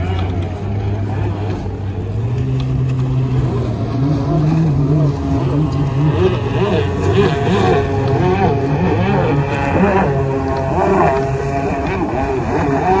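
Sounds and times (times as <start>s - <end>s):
engine revving up and down: 0.0s - 13.0s.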